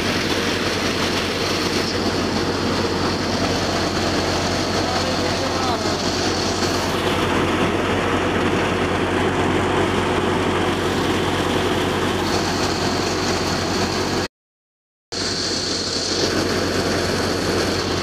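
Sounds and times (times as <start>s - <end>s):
tractor low drone: 0.0s - 14.3s, 15.2s - 18.0s.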